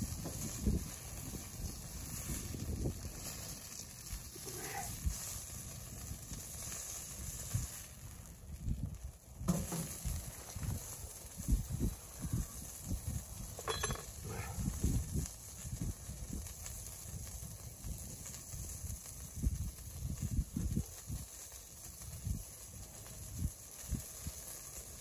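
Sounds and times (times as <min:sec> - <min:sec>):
rain pattering on tent fabric: 0:00.0 - 0:13.4, 0:14.3 - 0:25.0.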